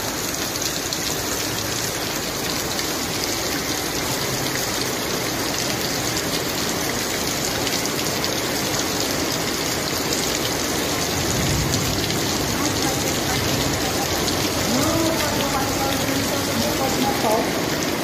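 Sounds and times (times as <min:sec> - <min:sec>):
floodwater rushing: 0:00.0 - 0:18.0
heavy rain pouring: 0:00.0 - 0:18.0.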